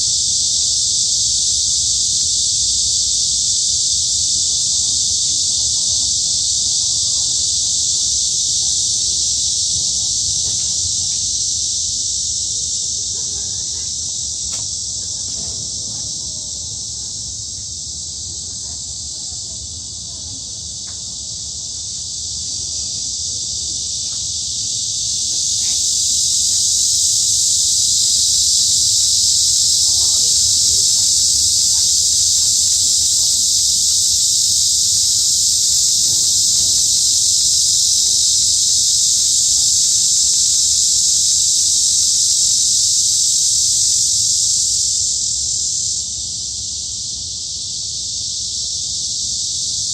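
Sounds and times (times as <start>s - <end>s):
cicadas buzzing in chorus: 0.0s - 49.9s.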